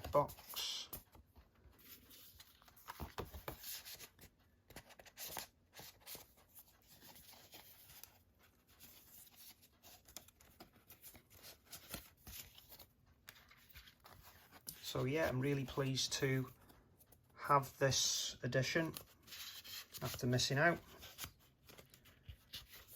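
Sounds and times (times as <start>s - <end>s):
cards and paper rustling: 0.0s - 22.9s.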